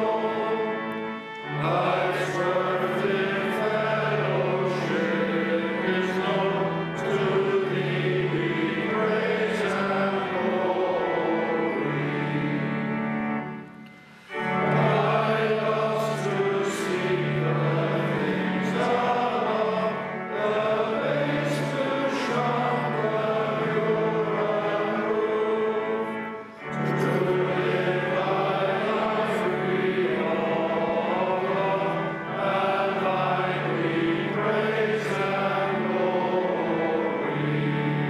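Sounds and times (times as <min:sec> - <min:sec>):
men singing together: 0:01.6 - 0:12.6, 0:14.7 - 0:26.0, 0:26.8 - 0:38.0.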